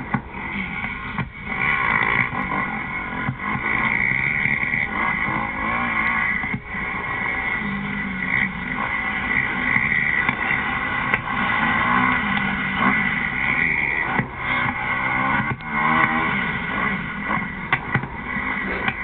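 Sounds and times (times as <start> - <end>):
muffled dirt bike engine revving: 0.0 - 19.0.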